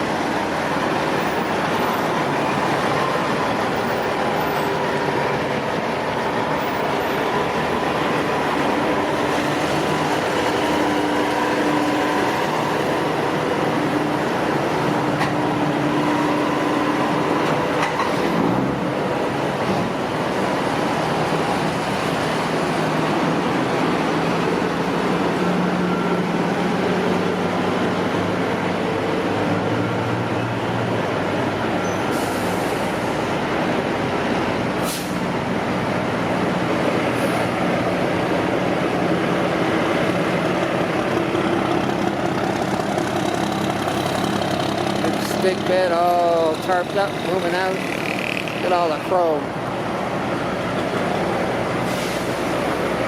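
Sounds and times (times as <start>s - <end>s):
heavy trucks road noise: 0.0s - 53.0s.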